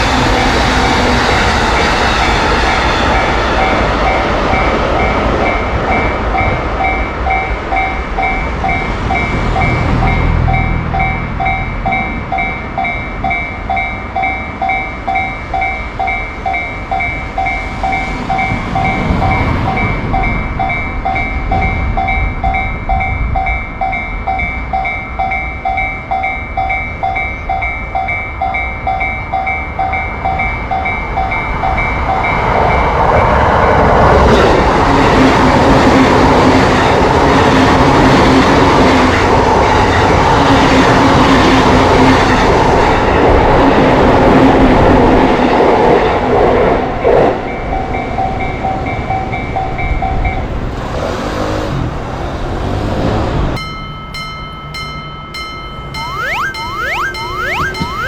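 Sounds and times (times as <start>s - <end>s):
railroad crossing bell: 0.0s - 58.0s
train passing: 0.0s - 58.0s.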